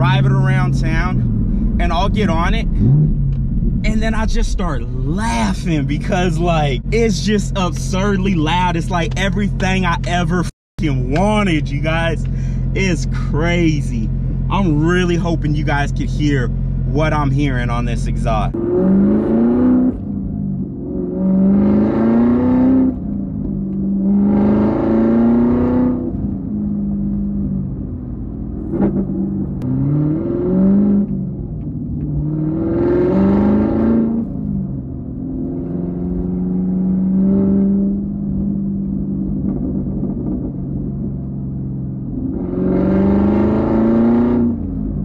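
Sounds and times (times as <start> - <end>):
car engine accelerating hard: 0.0 - 45.0
exhaust drone: 0.0 - 45.0.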